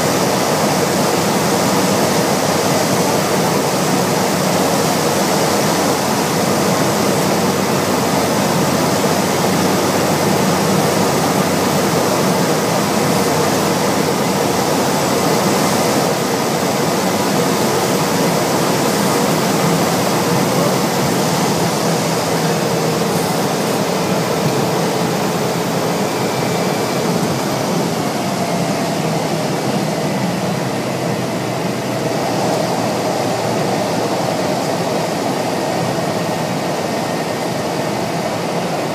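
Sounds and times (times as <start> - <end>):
turboprop engine and propeller hum: 0.0 - 38.9.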